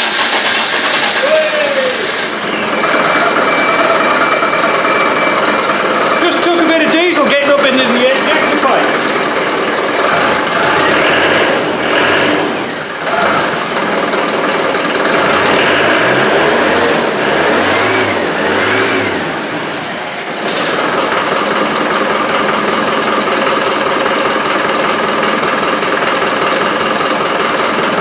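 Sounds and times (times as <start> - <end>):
engine revving and idling: 0.0 - 28.0.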